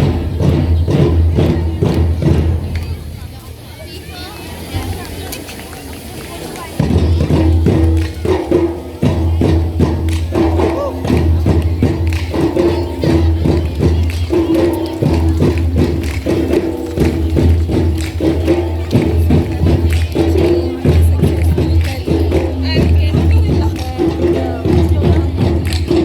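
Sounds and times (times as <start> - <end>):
drum band playing: 0.0 - 3.4, 6.6 - 26.0.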